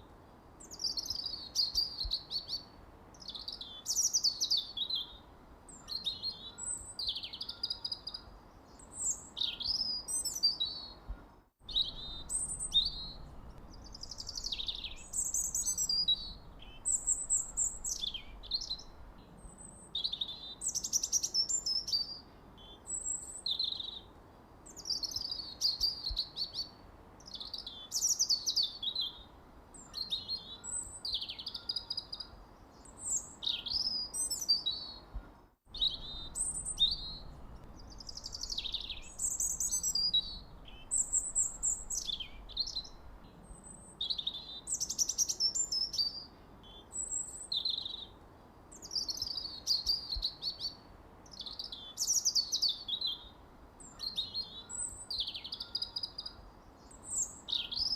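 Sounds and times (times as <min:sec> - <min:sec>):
songbirds chirping and singing: 0:00.6 - 0:24.1, 0:24.7 - 0:48.2, 0:48.8 - 0:57.9.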